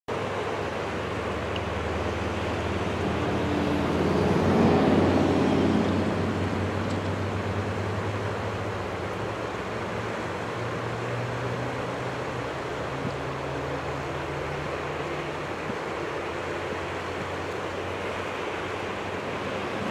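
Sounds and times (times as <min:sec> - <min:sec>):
distant jet engines humming: 0:00.1 - 0:19.9.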